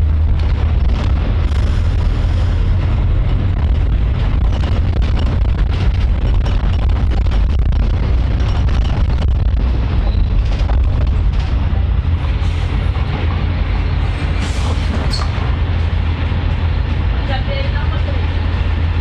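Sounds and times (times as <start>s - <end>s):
vehicle interior rumble: 0.0s - 19.0s.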